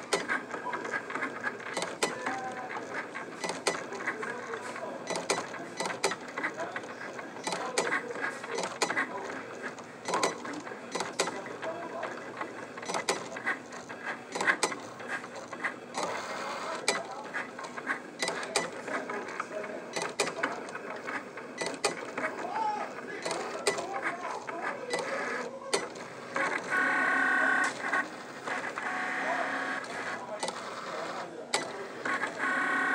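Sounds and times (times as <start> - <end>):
sharp machine clicks: 0.0 - 4.4, 5.0 - 19.2, 19.9 - 22.5, 23.2 - 26.7, 29.8 - 32.4
cutting machine motors running: 0.0 - 32.9.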